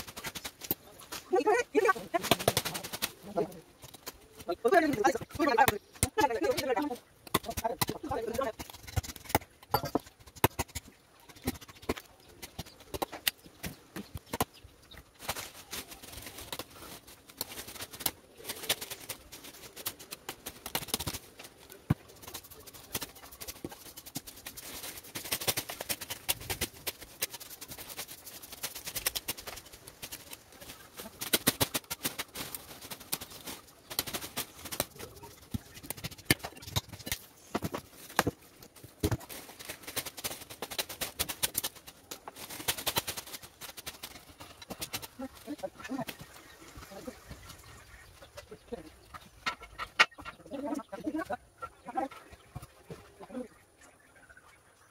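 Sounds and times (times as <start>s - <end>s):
leafy branches rustling: 0.0s - 54.2s.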